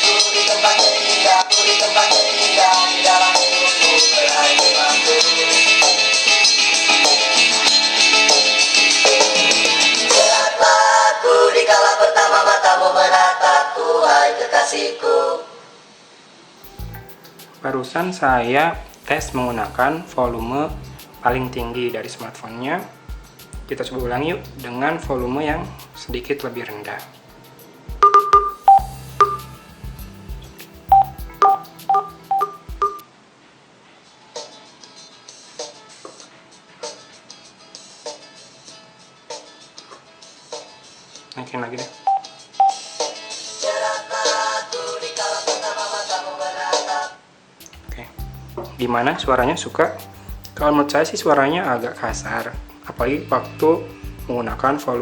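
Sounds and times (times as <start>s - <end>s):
song playing through a speaker: 0.0s - 10.9s, 16.6s - 33.0s, 34.4s - 41.3s, 42.0s - 55.0s.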